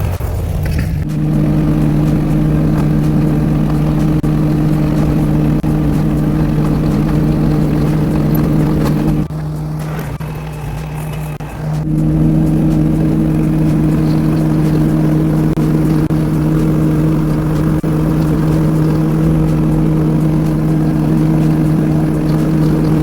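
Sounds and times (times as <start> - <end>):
skid steer engine humming: 0.8 - 23.0.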